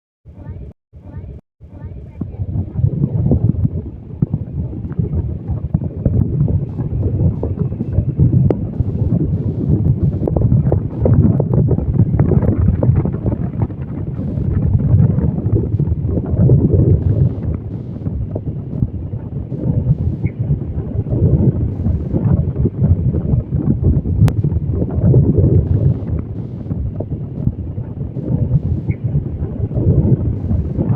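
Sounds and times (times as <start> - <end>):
wind buffeting microphone: 1.1 - 30.9.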